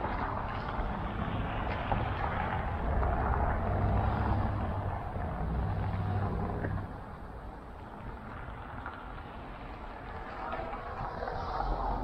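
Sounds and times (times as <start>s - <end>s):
vehicle passing with low rumble: 0.0s - 12.0s.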